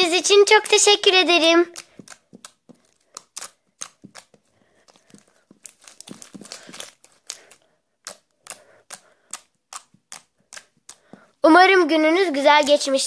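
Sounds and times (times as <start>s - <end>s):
hands squishing slime: 0.1s - 13.0s.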